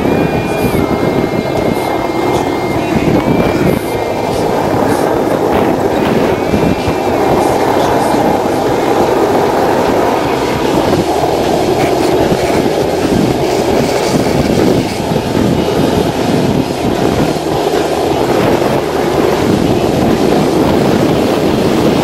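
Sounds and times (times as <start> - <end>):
longboard wheels rolling on asphalt: 0.0 - 22.0.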